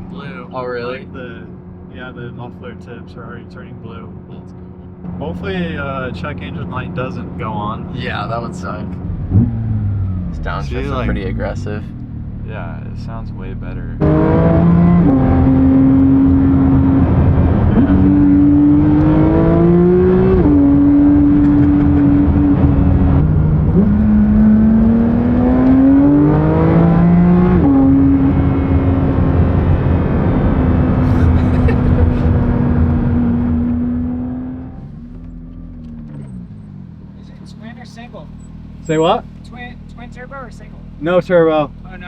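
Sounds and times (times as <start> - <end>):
sports car engine revving: 1.0 - 42.0.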